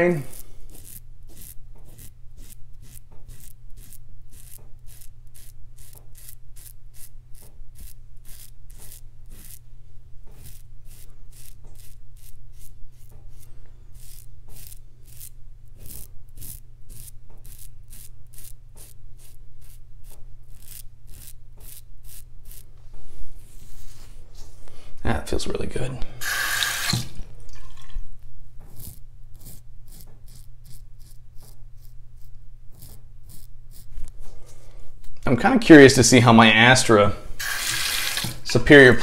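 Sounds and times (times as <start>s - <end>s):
razor scraping stubble: 0.0s - 24.6s, 28.6s - 36.0s, 37.4s - 39.0s.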